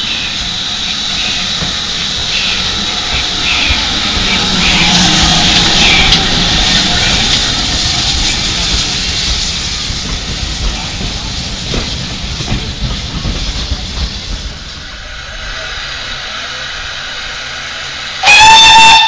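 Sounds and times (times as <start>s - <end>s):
steam hissing from locomotive: 0.0s - 19.0s
train coaches rumbling past: 0.0s - 19.0s.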